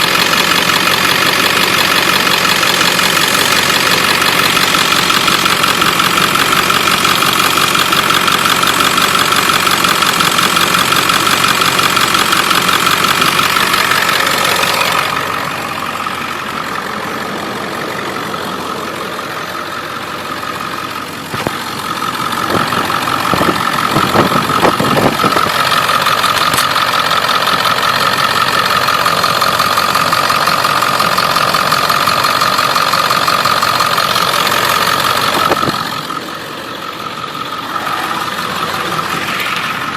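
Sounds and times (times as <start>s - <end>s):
exhaust leak ticking: 0.0s - 17.9s, 19.2s - 36.4s
diesel engine idling: 0.0s - 39.9s
engine knocks: 0.0s - 39.9s.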